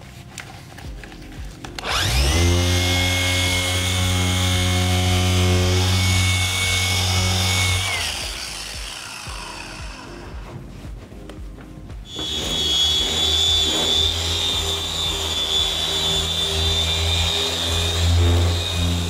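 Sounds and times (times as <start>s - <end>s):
polisher humming and whining: 0.1s - 19.0s.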